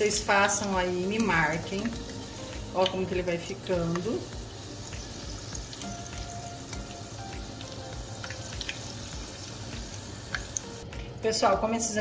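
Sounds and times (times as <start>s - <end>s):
food deep-frying in oil: 0.0s - 11.9s.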